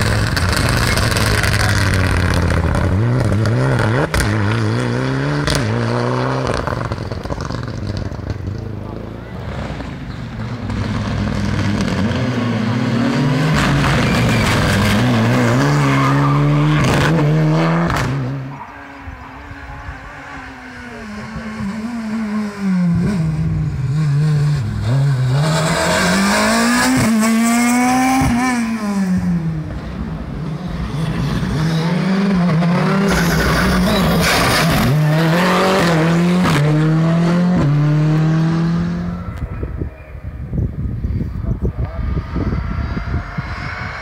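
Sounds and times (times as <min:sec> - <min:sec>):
rally car engines revving: 0:00.0 - 0:44.0.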